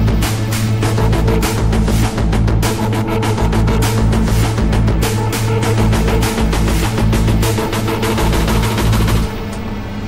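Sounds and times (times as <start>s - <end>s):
music with fast drumbeat: 0.0s - 9.5s.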